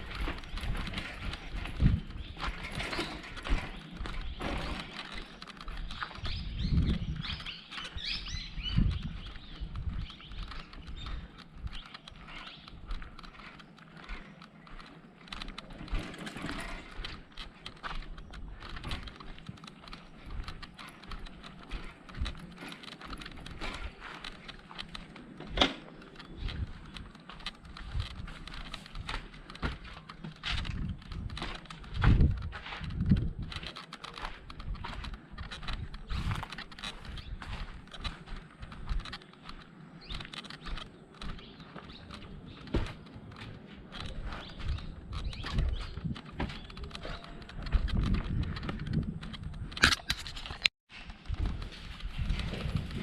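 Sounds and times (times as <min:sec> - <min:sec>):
bicycle rattling and clicking: 0:00.0 - 0:53.0.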